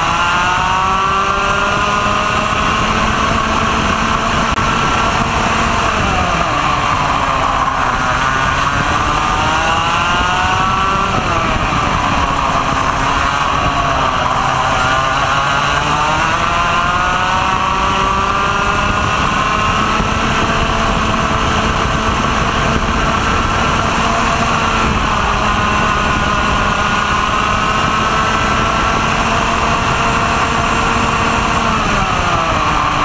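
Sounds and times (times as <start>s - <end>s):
kart engine revving: 0.0s - 33.0s
wind and chassis noise: 0.0s - 33.0s.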